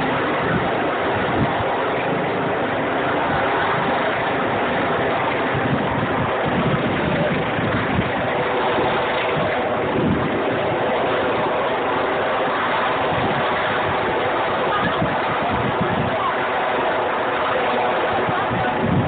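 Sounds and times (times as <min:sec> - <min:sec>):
rushing street noise: 0:00.0 - 0:19.0
wind buffeting microphone: 0:00.0 - 0:19.0.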